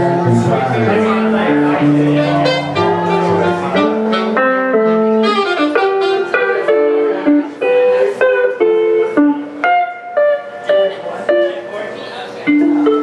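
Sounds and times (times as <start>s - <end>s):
saxophone jazzy melody: 0.0s - 11.6s
electric guitar accompaniment: 0.0s - 13.0s.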